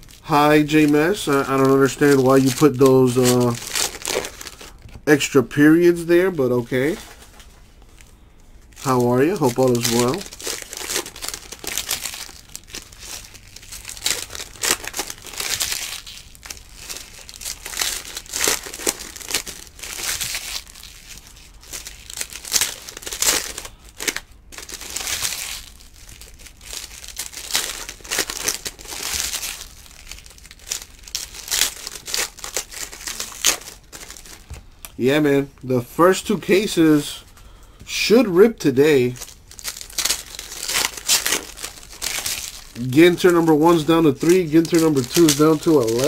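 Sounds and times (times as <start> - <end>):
foil wrappers tearing and crinkling: 0.0 - 34.9, 36.1 - 46.0.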